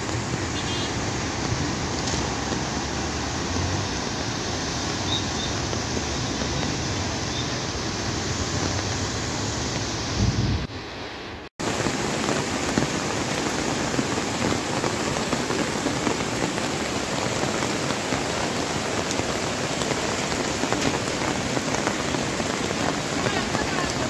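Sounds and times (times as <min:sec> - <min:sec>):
heavy rain falling: 0:00.0 - 0:10.9, 0:11.6 - 0:24.0
flooding river rushing: 0:00.0 - 0:24.0.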